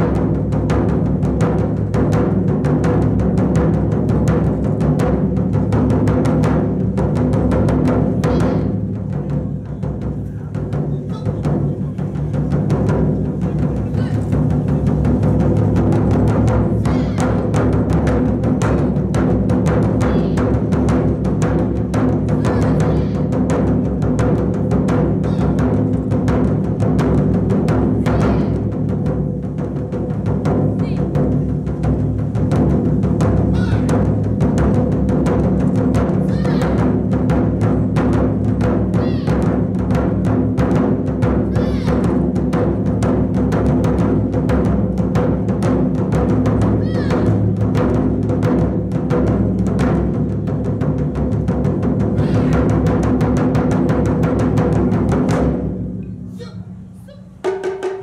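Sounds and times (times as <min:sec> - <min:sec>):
taiko drums drumming fast: 0:00.0 - 0:56.8, 0:57.4 - 0:58.0.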